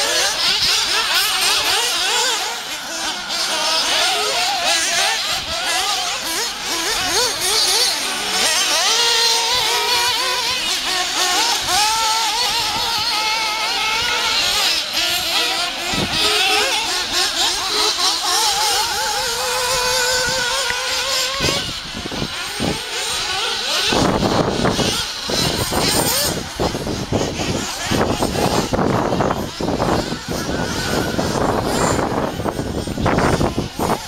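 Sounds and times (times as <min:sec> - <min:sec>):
rough rushing noise: 0:00.0 - 0:34.0
small rc engines whining: 0:00.0 - 0:34.0.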